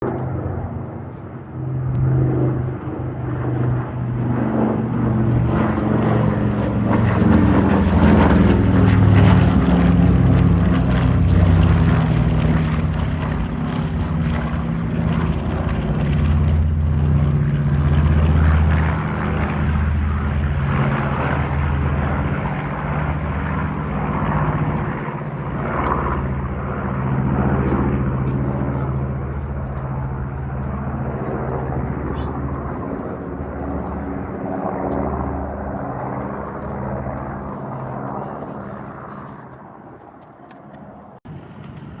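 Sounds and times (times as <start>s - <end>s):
propeller plane flying overhead: 0.0s - 42.0s.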